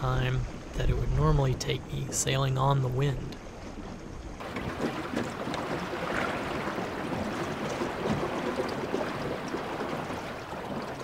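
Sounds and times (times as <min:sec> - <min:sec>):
water splashing along hull: 0:00.0 - 0:11.0
wind: 0:00.0 - 0:11.0.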